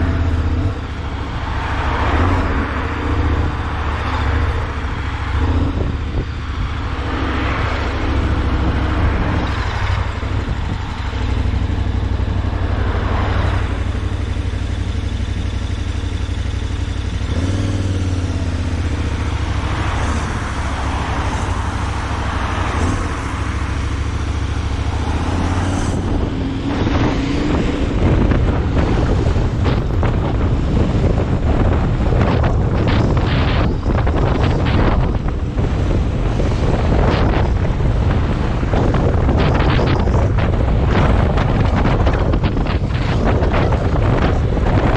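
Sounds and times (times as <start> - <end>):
road noise: 0.0 - 44.9
vehicle engine hum: 0.0 - 44.9
wind buffeting microphone: 0.0 - 44.9.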